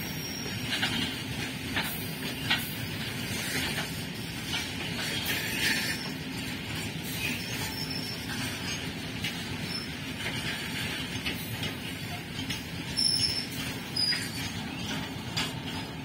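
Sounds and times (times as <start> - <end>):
freight wagons rumbling: 0.0 - 16.0.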